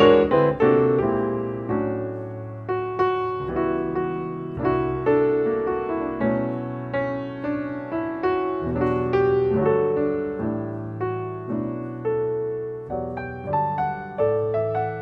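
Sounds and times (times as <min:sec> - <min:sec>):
slow piano chords ringing: 0:00.0 - 0:15.0.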